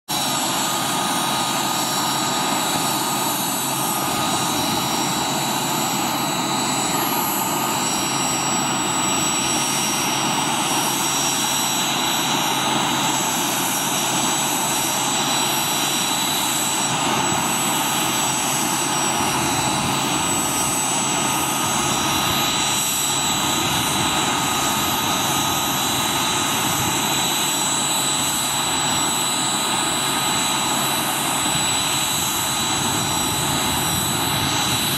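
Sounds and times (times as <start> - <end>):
helicopter turbine whine: 0.1 - 34.9.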